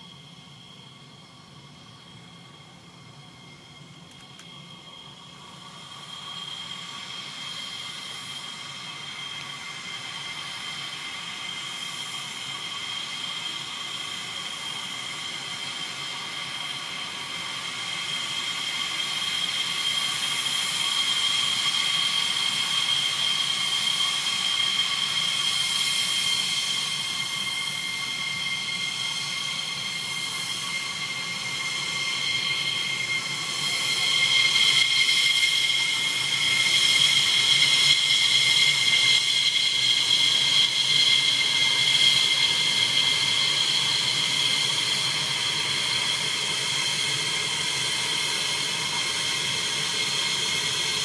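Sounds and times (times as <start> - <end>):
jet engines whining: 0.0 - 51.0.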